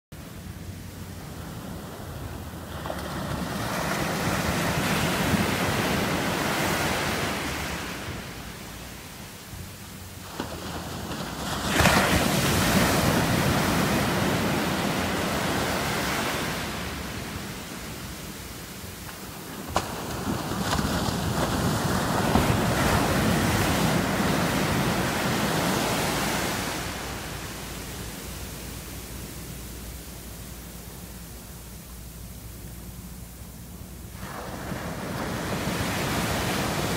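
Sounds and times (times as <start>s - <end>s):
small waves breaking on beach: 0.2s - 30.5s, 34.1s - 36.9s.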